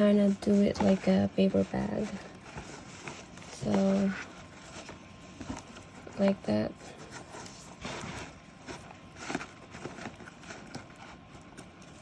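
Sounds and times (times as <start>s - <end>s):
wrapping paper rustling: 0.0s - 12.0s.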